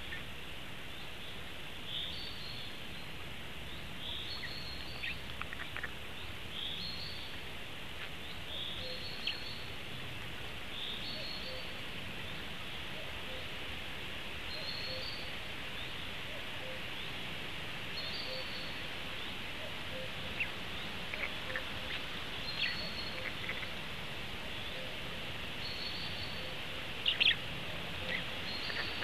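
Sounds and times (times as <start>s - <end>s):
songbird calling: 0.0s - 9.8s, 10.6s - 13.6s, 14.3s - 29.0s
forest background hiss: 0.0s - 29.0s.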